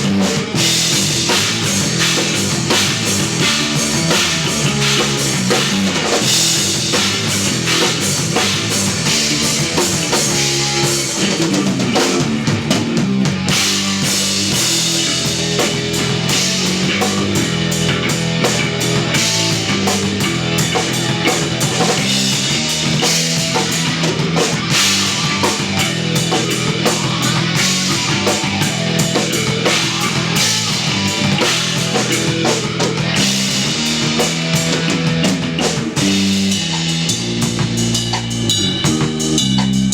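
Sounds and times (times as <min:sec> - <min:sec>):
live instrumental rock: 0:00.0 - 0:39.9
sustained bass notes: 0:00.0 - 0:39.9.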